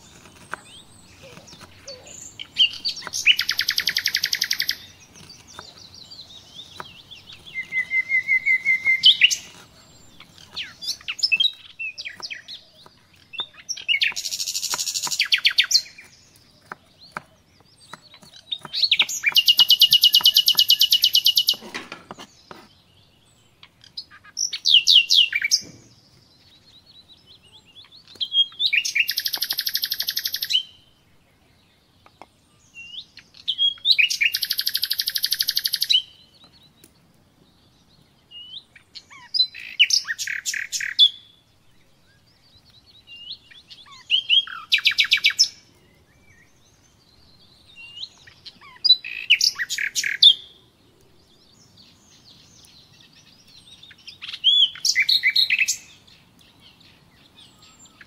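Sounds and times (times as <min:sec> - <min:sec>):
songbird trilling: 0:00.0 - 0:21.6, 0:23.6 - 0:26.1, 0:26.7 - 0:30.9, 0:32.1 - 0:36.9, 0:38.3 - 0:41.3, 0:42.0 - 0:50.6, 0:51.6 - 0:58.0.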